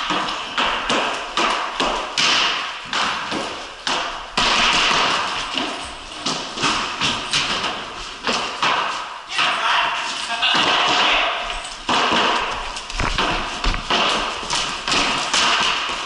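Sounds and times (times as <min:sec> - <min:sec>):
hockey stick scraping: 0:00.0 - 0:16.0
hockey sticks clacking on concrete: 0:00.0 - 0:16.0.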